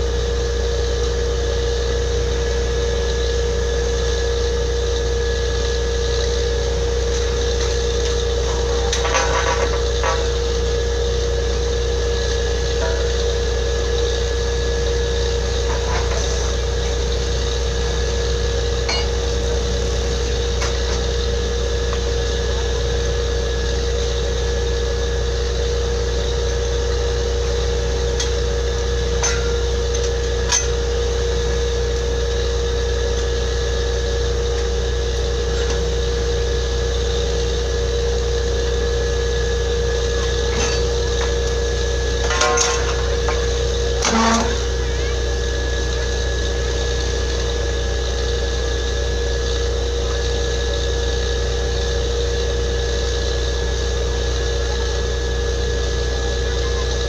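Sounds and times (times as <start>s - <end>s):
drilling rig engine drone: 0.0s - 57.0s.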